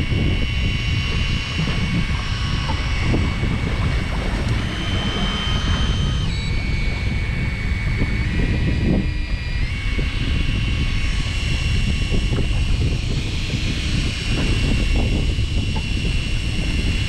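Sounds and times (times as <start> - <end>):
boat engine rumble: 0.0 - 17.0
thin high whine: 0.0 - 17.0.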